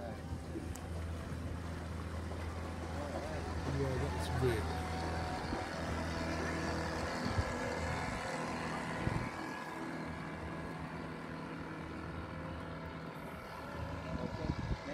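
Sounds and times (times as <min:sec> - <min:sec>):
boat engine humming: 0:00.0 - 0:14.9.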